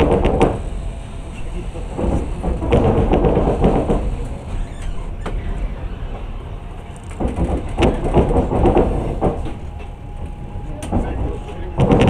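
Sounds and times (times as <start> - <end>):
train carriage rattling: 0.0 - 12.0
train running gear rumble: 0.0 - 12.0.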